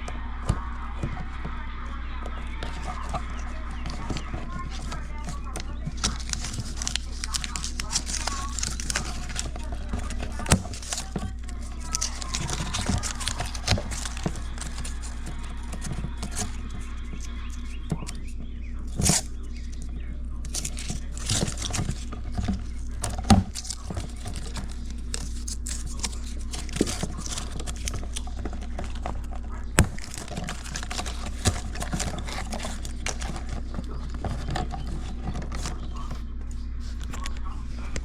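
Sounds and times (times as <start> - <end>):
steady low hum: 0.0 - 38.0
wire handling clicks and scrapes: 2.6 - 38.0.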